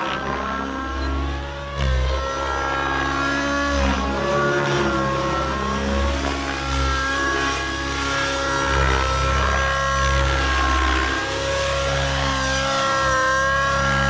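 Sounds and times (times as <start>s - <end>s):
rc helicopter engine and rotor: 0.0s - 14.0s.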